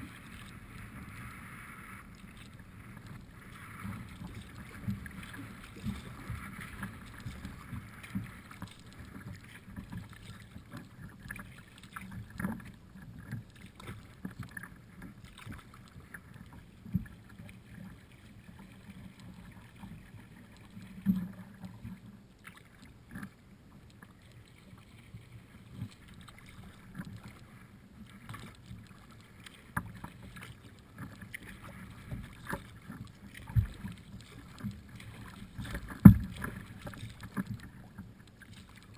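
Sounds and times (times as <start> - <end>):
paddle in water against hull: 0.0 - 38.9.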